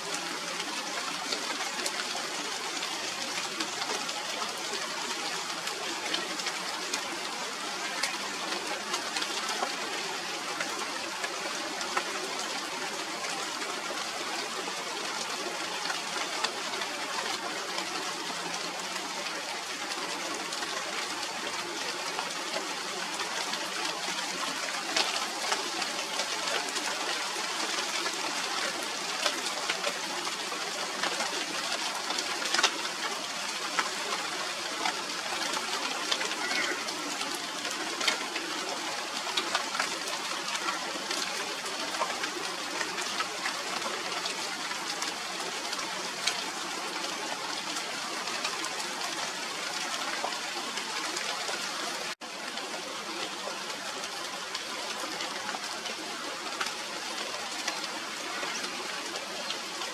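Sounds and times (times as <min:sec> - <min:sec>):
rain hissing: 0:00.0 - 0:59.9
raindrops ticking: 0:00.0 - 0:59.9.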